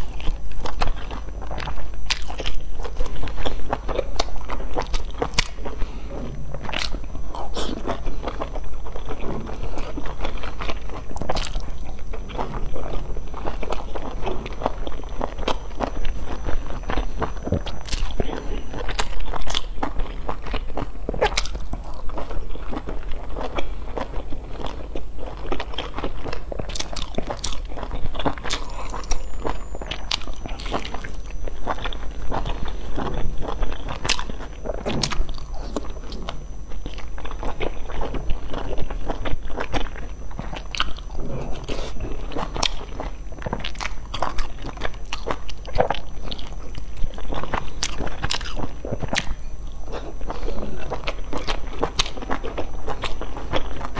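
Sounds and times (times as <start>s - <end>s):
low hum: 0.0s - 53.9s
person chewing dumplings: 0.0s - 53.9s.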